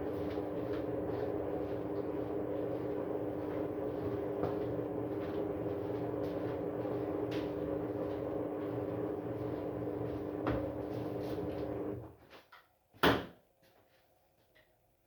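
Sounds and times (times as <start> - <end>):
washing machine humming: 0.0 - 12.2.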